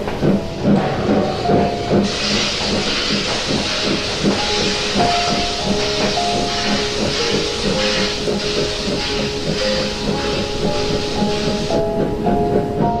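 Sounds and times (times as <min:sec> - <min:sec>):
loud steam hiss: 0:00.0 - 0:13.0
steam locomotive exhaust chuffs: 0:00.0 - 0:13.0.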